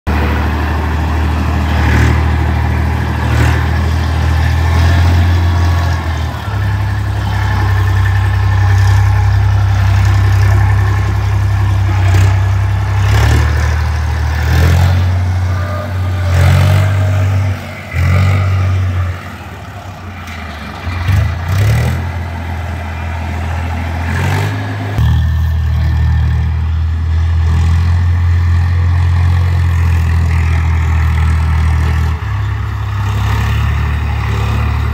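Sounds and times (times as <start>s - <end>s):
engine clatter: 0.1s - 34.9s
tractor diesel engine running: 0.1s - 34.9s.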